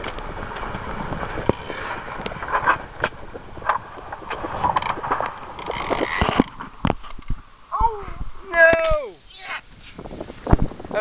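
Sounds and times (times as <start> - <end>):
sea noise: 0.0 - 11.0
wind: 0.0 - 11.0.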